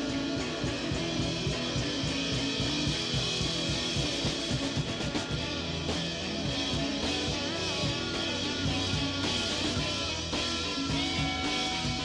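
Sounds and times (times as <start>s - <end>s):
rock music: 0.0s - 12.0s.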